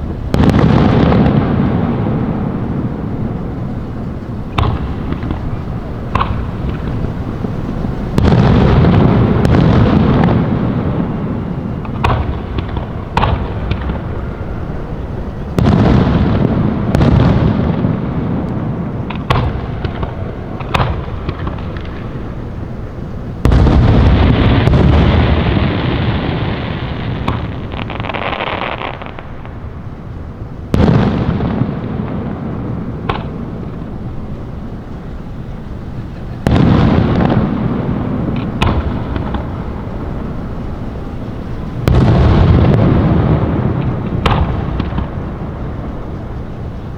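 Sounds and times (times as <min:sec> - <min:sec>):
sharp firework pops: 0:00.0 - 0:22.8, 0:23.4 - 0:29.8, 0:30.7 - 0:46.9
firework booms rumbling: 0:00.0 - 0:46.9.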